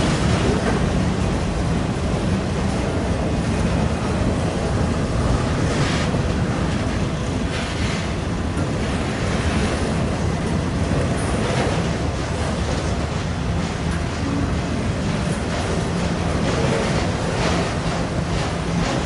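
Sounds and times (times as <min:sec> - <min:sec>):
train passing: 0:00.0 - 0:19.0
wind on microphone: 0:00.0 - 0:19.0.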